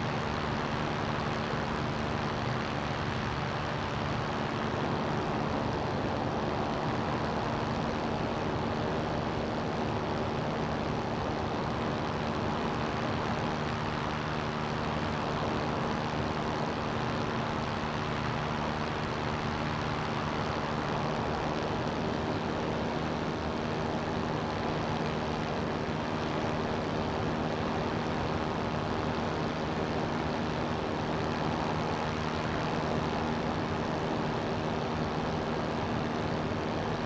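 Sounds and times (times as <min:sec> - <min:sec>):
ultralight engine and propeller drone: 0:00.0 - 0:37.0.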